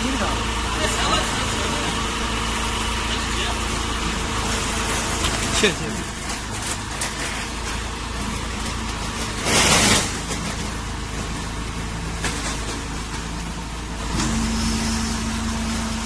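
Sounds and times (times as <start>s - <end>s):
baling press motor and pump hum: 0.0s - 16.0s.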